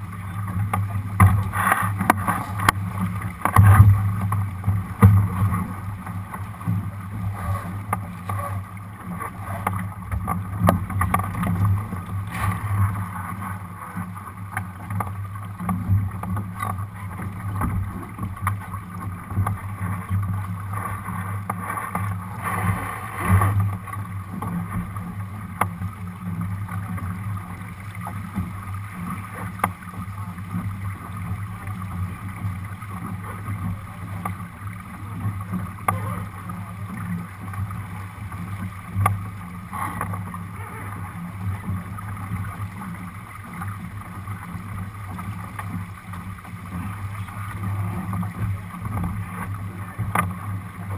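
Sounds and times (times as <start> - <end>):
water rushing along a hull: 0.0 - 50.9.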